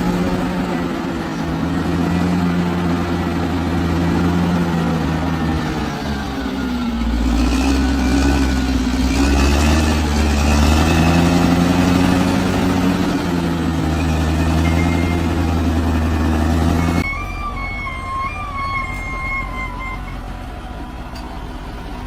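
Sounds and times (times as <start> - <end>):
bulldozer diesel engine under load: 0.0 - 22.0
steady high tones: 0.0 - 22.0.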